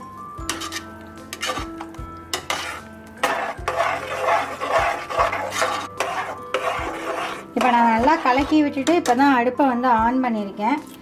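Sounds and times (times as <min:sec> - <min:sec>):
ladle scraping a metal pot: 0:00.4 - 0:09.3.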